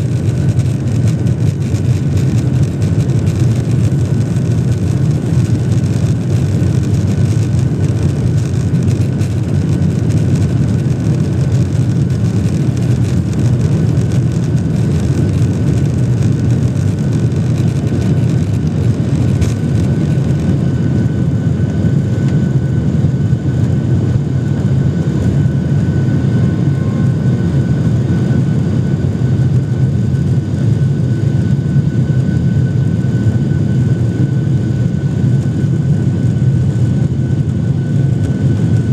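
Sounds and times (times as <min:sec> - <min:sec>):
jet engines deep rumble: 0:00.0 - 0:38.9
thin steady whine: 0:00.0 - 0:38.9.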